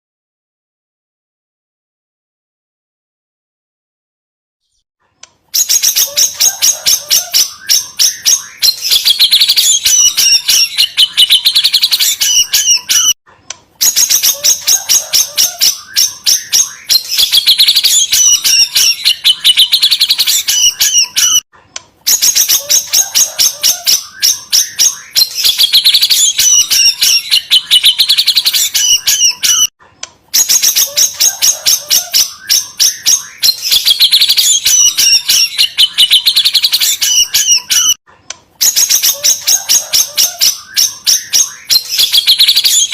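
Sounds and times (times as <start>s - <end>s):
recorded bird song chattering trills: 5.5s - 13.2s, 13.8s - 21.4s, 22.1s - 29.7s, 30.3s - 38.0s, 38.6s - 42.9s.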